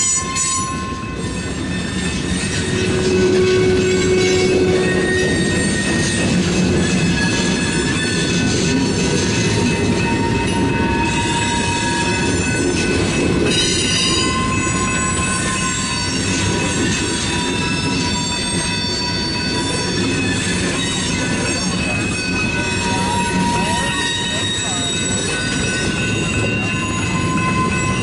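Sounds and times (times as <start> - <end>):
freight train rolling past: 0.0 - 28.0
high wheel squeal: 0.0 - 28.0.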